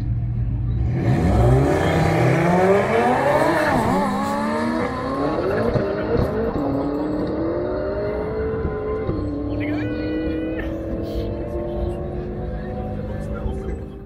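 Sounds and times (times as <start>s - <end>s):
drag race cars accelerating: 0.6s - 14.0s.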